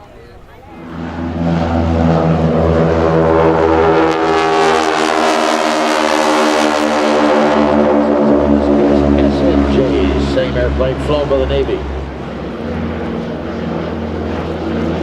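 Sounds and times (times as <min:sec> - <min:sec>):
propeller plane passing: 0:00.0 - 0:15.0.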